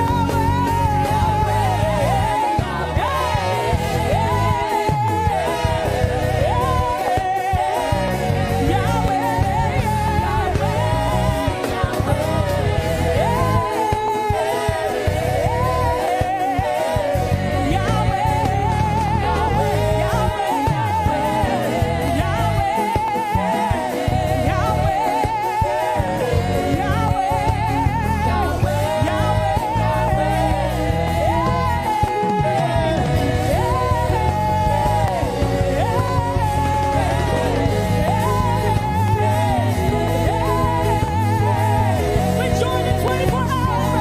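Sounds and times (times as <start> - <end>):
gospel instrumental backing: 0.0 - 44.0.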